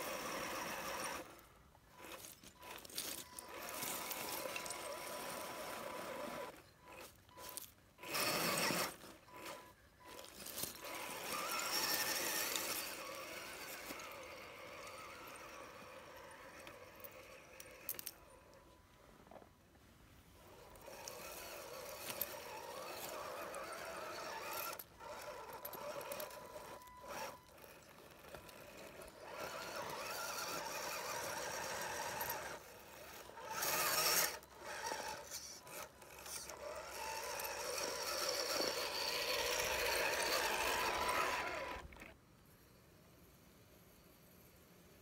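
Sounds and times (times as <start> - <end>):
electric motor and gearbox whining: 0.0 - 19.5, 20.4 - 42.2.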